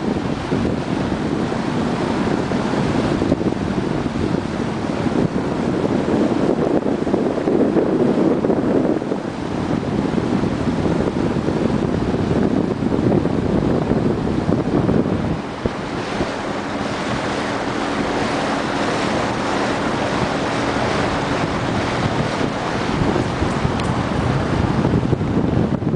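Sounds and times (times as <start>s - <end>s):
water rushing past boat hull: 0.0s - 25.9s
wind buffeting microphone: 0.0s - 25.9s.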